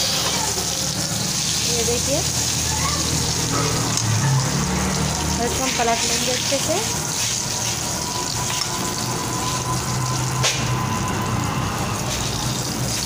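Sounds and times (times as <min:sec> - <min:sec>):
eggplant slices sizzling in oil: 0:00.0 - 0:13.0.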